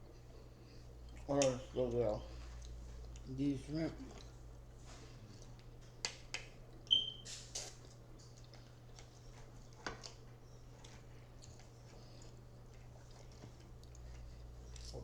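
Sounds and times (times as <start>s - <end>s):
person chewing: 0.1s - 5.8s, 6.6s - 15.0s.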